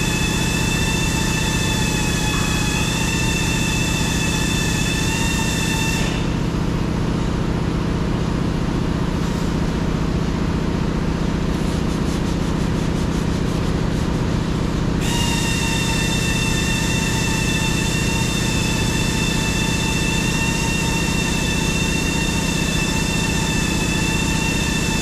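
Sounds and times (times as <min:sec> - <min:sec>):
high whine: 0:00.0 - 0:10.9, 0:14.8 - 0:25.0.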